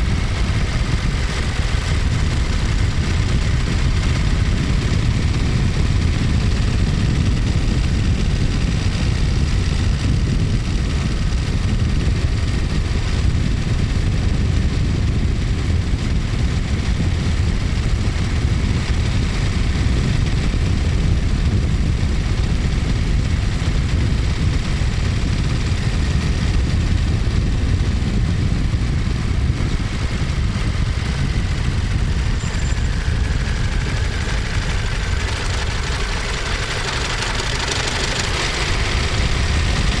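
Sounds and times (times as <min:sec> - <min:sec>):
motorcycle engine running steadily: 0:00.0 - 0:40.0.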